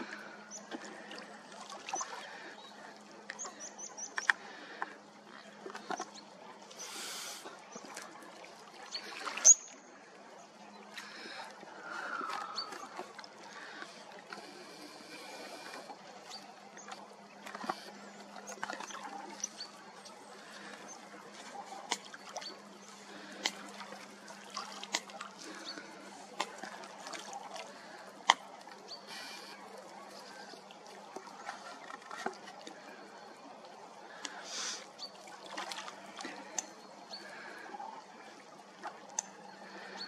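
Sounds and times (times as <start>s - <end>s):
water lapping and trickling: 0.0s - 40.0s.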